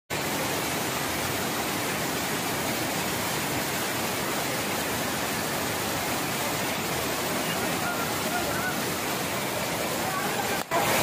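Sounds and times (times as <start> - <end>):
water rushing over dam: 0.1 - 11.0.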